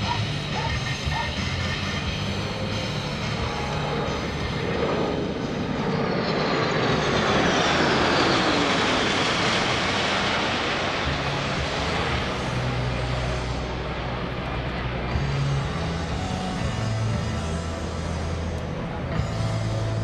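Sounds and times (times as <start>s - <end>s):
jet aircraft flyby: 0.0s - 20.0s
jet engine whine falling in pitch: 0.0s - 20.0s.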